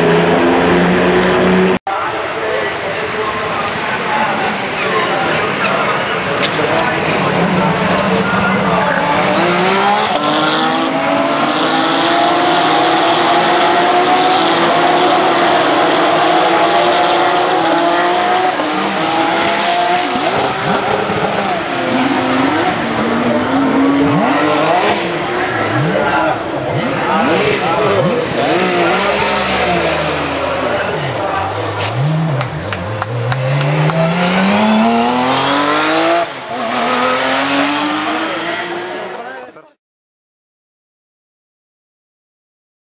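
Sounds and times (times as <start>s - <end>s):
racing car engines accelerating: 0.0s - 39.7s.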